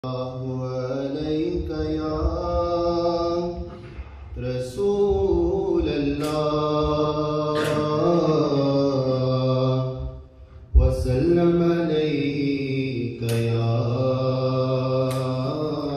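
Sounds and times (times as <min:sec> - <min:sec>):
man singing into a microphone: 0:00.0 - 0:15.9.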